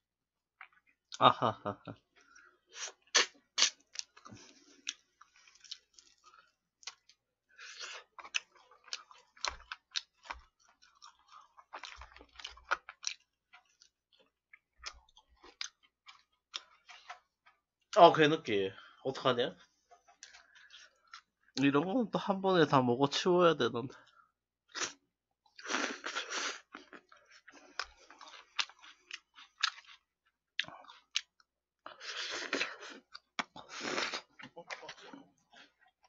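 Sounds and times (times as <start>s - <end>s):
chewing crunchy food: 1.9s - 18.0s, 19.5s - 21.7s, 24.0s - 36.0s.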